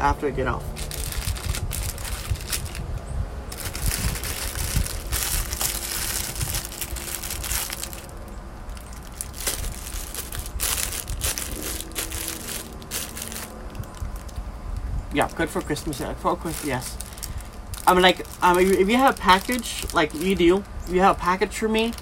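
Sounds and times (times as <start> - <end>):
plastic bag crinkling: 0.7 - 22.0.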